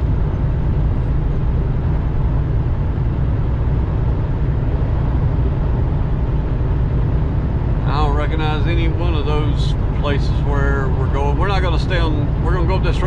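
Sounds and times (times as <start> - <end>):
road noise inside cab: 0.0 - 13.0
truck engine rumble: 0.0 - 13.0.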